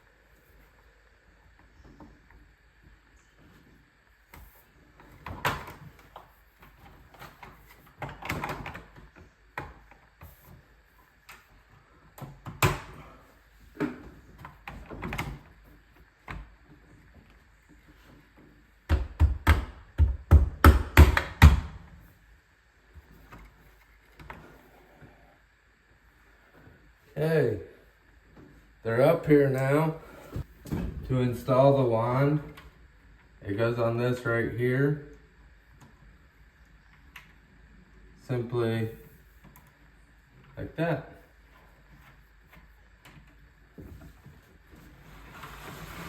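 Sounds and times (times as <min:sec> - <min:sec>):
faint high hum: 0:00.0 - 0:46.0.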